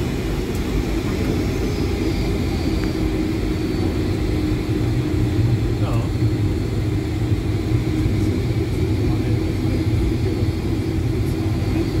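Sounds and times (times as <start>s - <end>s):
airplane cabin rumble while taxiing: 0.0s - 12.0s.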